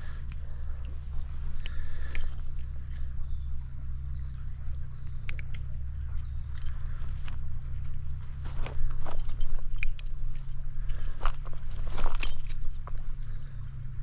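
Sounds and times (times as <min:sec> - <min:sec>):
sharp clicks and rustles: 0:00.0 - 0:03.5, 0:04.2 - 0:14.0
low rumble: 0:00.0 - 0:14.0.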